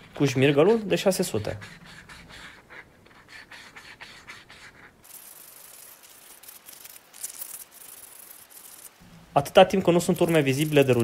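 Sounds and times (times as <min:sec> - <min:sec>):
sandpaper rubbing on metal: 0:00.0 - 0:02.6, 0:03.2 - 0:09.0, 0:10.0 - 0:11.0.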